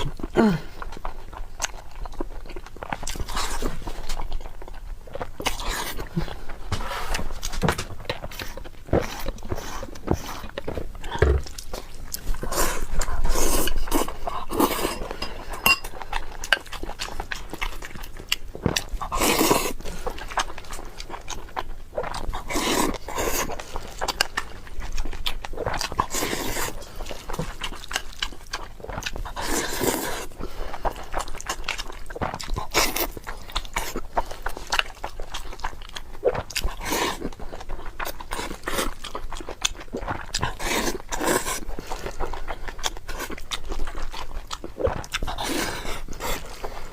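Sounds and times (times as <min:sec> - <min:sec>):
chewing and wet mouth sounds: 0:00.0 - 0:46.9.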